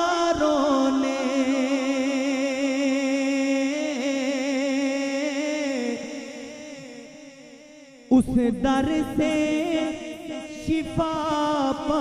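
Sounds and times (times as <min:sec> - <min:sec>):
man singing long note with vibrato: 0:00.0 - 0:12.0.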